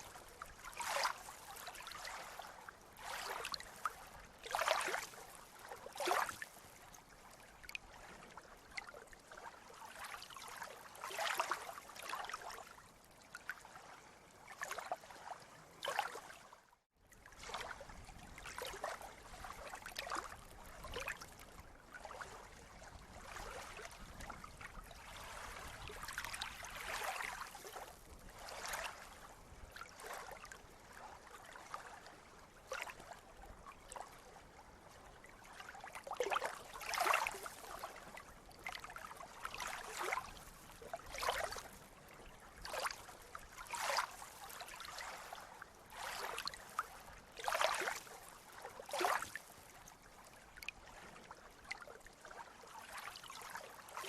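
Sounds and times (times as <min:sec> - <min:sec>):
sea waves lapping and splashing: 0:00.0 - 0:54.0.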